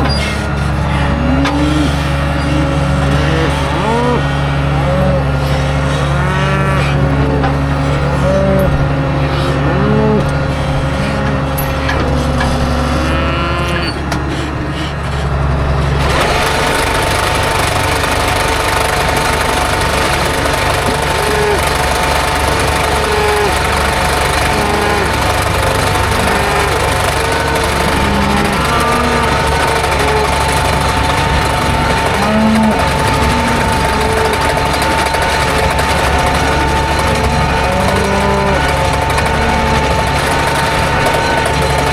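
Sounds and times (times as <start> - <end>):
farm vehicle engine running: 0.0 - 41.9
steady whine: 0.0 - 41.9.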